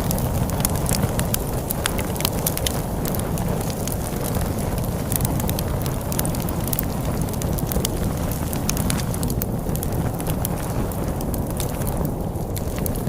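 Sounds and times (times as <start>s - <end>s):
log fire crackling and popping: 0.0s - 13.0s
storm wind rumbling: 0.0s - 13.0s.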